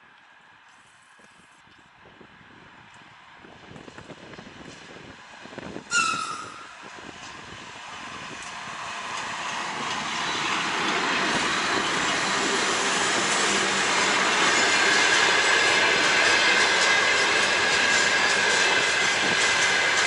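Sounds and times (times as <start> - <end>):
train wheels rumbling on rails: 1.7 - 20.0.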